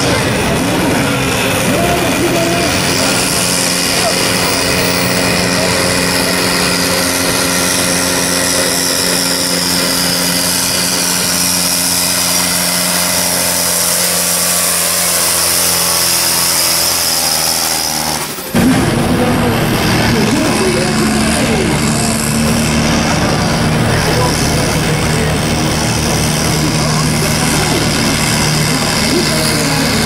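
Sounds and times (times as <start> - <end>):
tractor diesel engine at full throttle: 0.0 - 30.0
tractor engine starting: 0.0 - 30.0.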